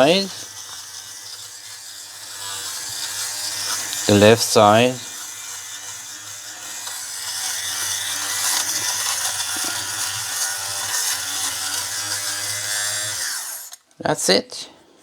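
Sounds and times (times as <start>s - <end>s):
fabric shaver motor humming: 0.0s - 13.8s
shaver head rasping on fabric: 0.0s - 13.8s.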